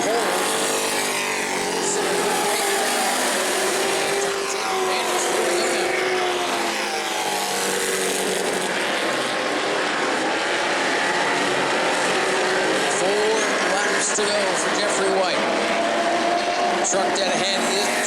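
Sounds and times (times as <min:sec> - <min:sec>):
race truck engines: 0:00.0 - 0:18.0.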